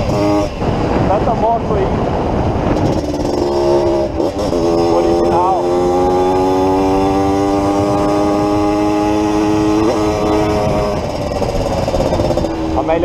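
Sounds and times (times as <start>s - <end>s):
motorcycle engine under load: 0.0s - 13.0s
wind rumble on microphone: 0.0s - 13.0s.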